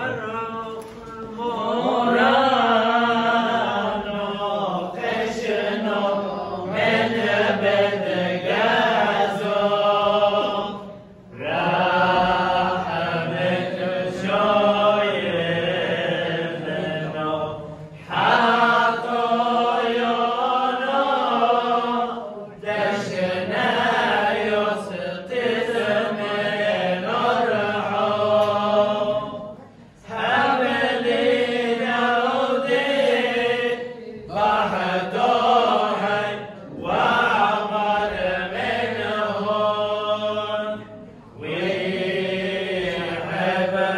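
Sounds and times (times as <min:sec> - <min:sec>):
men chanting a prayer: 0:00.0 - 0:43.9.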